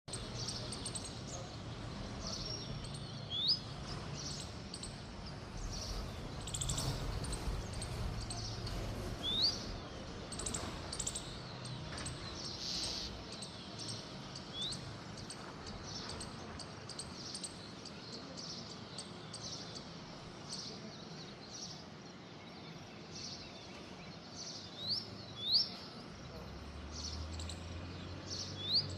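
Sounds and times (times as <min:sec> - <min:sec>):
bird chirping: 0:00.0 - 0:28.9
steady background noise: 0:00.0 - 0:28.9.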